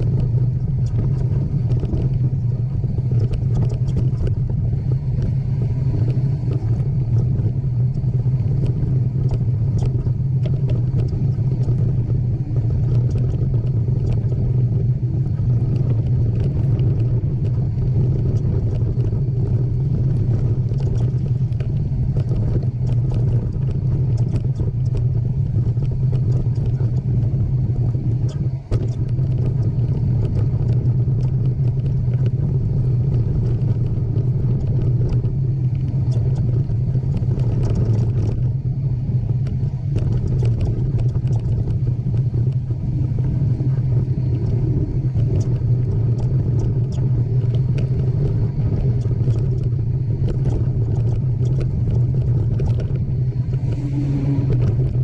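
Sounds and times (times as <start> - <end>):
bike rattles and clicks: 0.0 - 55.0
mountain bike rumble: 0.0 - 55.0.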